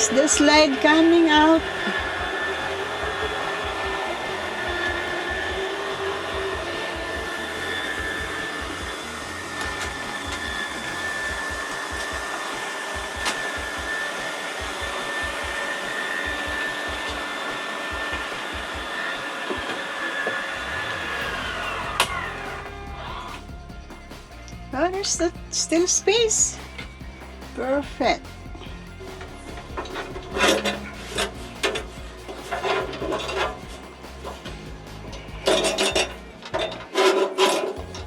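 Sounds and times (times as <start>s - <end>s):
electric motor whining: 0.0s - 38.0s.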